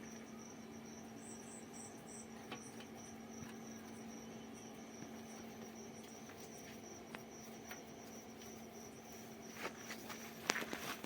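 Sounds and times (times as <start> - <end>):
crickets chirping: 0.0 - 10.8
low hum: 0.0 - 11.0.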